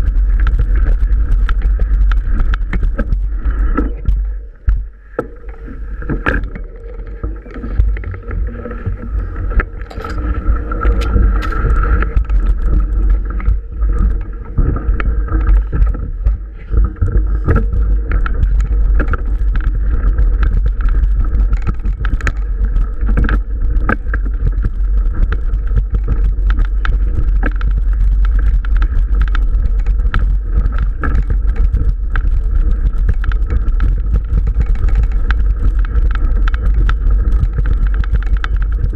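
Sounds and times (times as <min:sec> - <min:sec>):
bike rattling and knocking: 0:00.0 - 0:38.9
wind and vibration rumble: 0:00.0 - 0:38.9.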